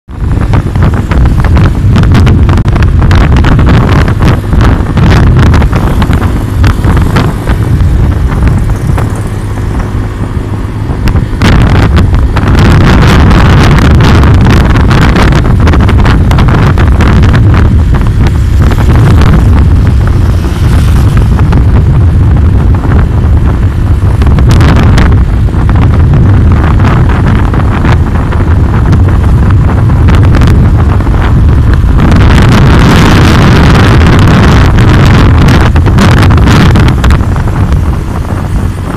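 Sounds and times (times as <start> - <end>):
motorcycle engine: 0.0 - 38.9
road traffic: 0.0 - 38.9
wind buffeting microphone: 0.0 - 38.9.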